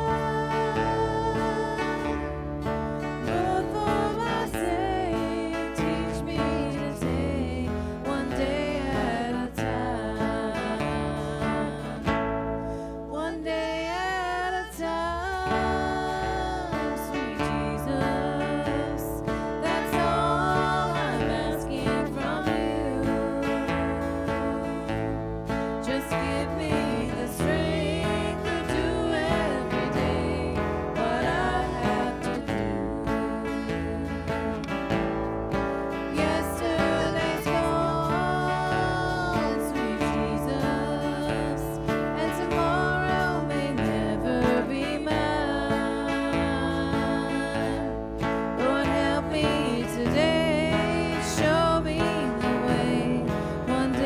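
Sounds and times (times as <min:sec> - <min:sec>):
strummed acoustic guitar: 0:00.0 - 0:54.0
women singing in harmony: 0:00.0 - 0:54.0.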